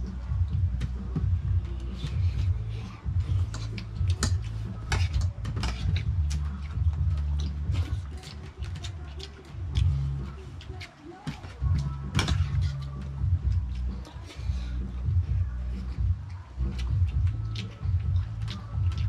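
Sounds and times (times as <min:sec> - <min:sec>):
low bass rumble: 0:00.0 - 0:10.4, 0:11.6 - 0:19.0.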